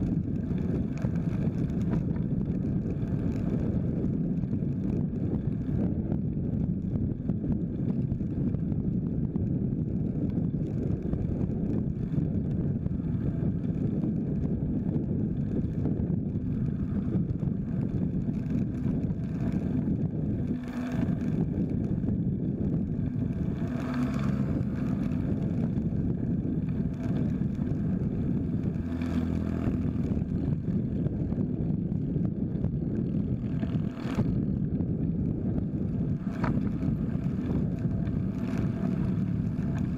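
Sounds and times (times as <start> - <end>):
road vehicles passing: 0.0 - 5.8, 10.6 - 39.9
wind rumbling on microphone: 0.0 - 39.9.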